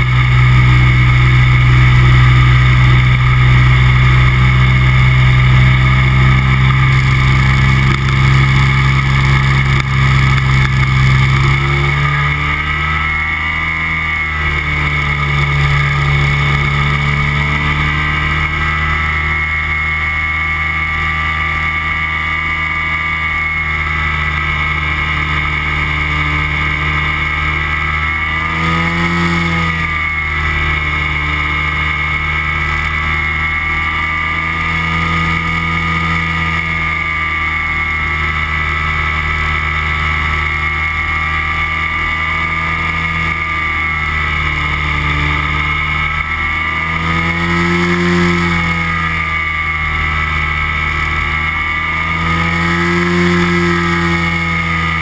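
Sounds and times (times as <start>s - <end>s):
microlight engine and propeller: 0.0s - 55.0s.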